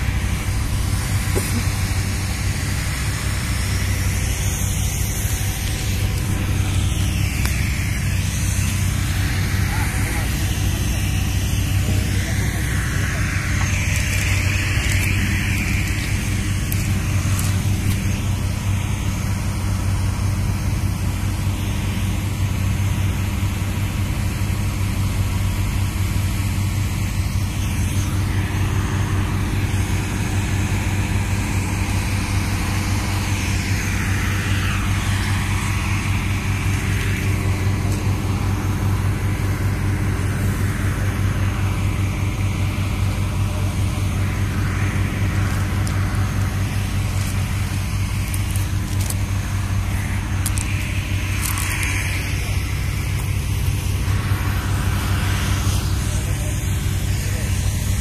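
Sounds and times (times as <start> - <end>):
electrical hum of substation: 0.0 - 58.0.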